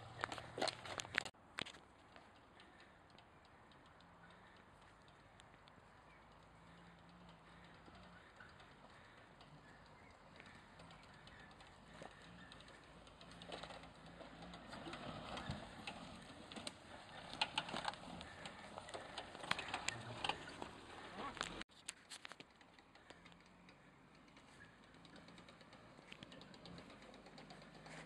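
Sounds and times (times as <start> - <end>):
sharp clicks and crackles: 0.1 - 28.0
car engine running at low revs: 3.9 - 21.6, 22.8 - 28.0.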